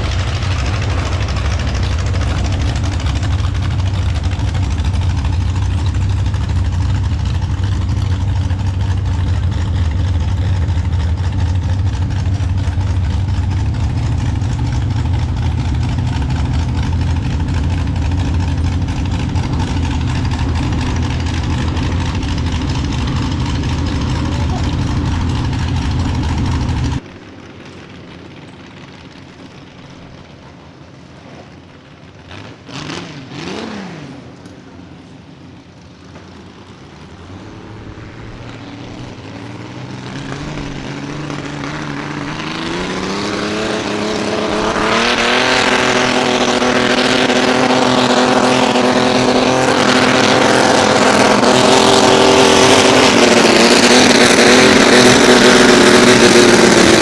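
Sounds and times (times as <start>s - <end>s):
tractor engine revving up: 0.0s - 27.1s, 32.2s - 34.4s, 36.4s - 57.0s
loud engine sound: 0.0s - 57.0s.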